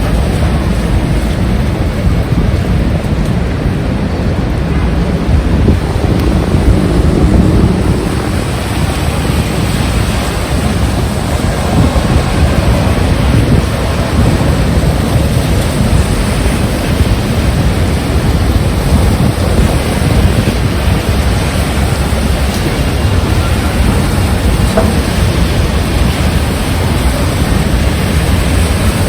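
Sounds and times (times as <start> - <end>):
heavy rain: 0.0 - 29.0
wind buffeting microphone: 0.0 - 29.0.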